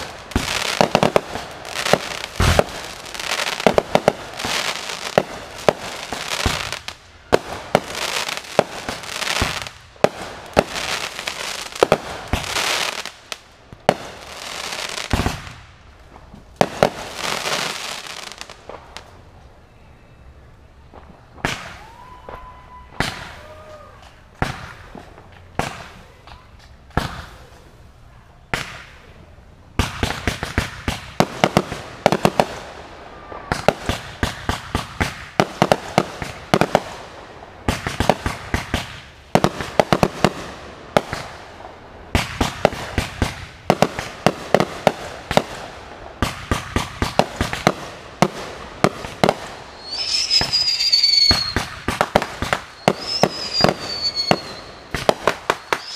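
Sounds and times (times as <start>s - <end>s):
firework bangs: 0.0s - 19.1s, 20.9s - 23.7s, 24.3s - 26.2s, 26.9s - 27.5s, 29.8s - 55.9s
firework barrage: 0.0s - 19.3s, 20.8s - 27.8s, 28.5s - 55.9s.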